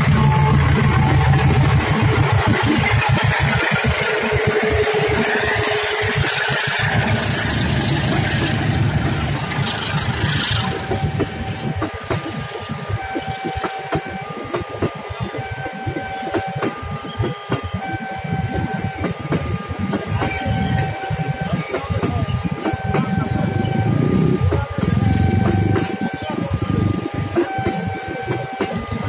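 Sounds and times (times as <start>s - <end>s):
locomotive engine passing: 0.0s - 16.3s, 17.8s - 29.0s
train wheels clacking over rail joints: 0.0s - 29.0s.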